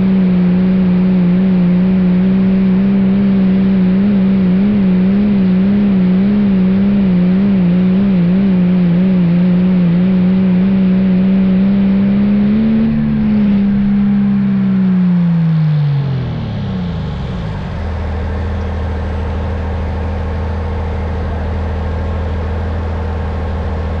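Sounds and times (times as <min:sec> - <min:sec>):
diesel pickup engine: 0:00.0 - 0:24.0.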